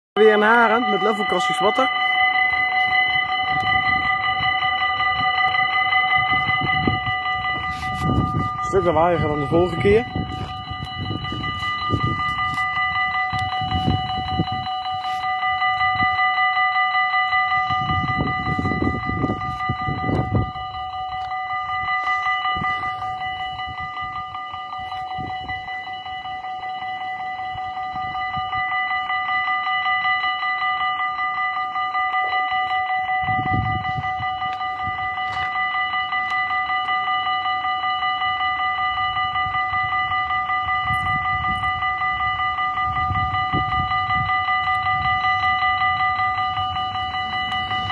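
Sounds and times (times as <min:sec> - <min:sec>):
level-crossing bell ringing: 0:00.2 - 0:47.9.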